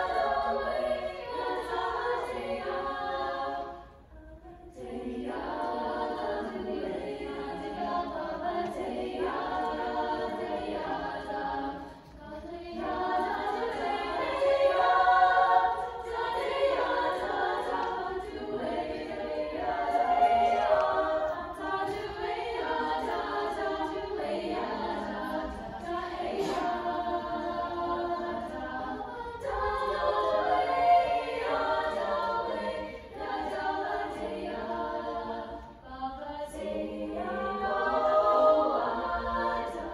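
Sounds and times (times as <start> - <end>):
girls' choir singing: 0.0 - 39.9.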